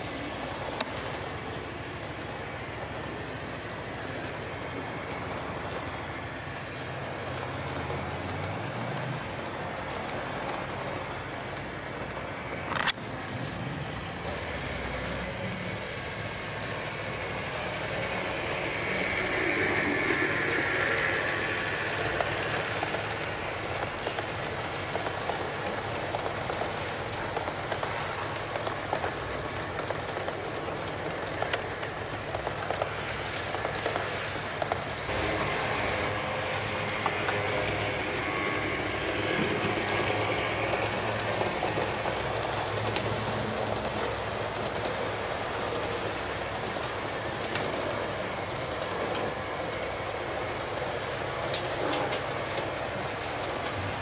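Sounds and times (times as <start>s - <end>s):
model train rolling rumble: 0.0s - 54.0s
wheels clicking over rail joints: 0.0s - 54.0s.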